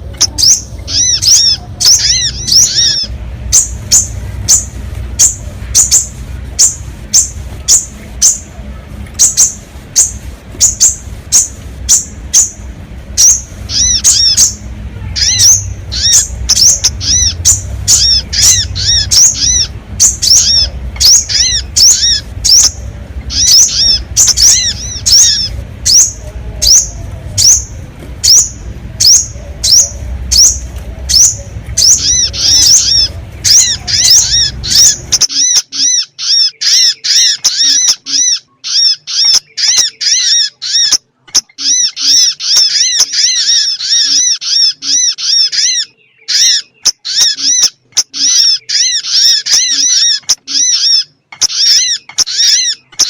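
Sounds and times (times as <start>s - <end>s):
low background rumble: 0.0s - 53.0s
high-pitched bird lure calls: 0.1s - 8.4s, 15.2s - 53.0s.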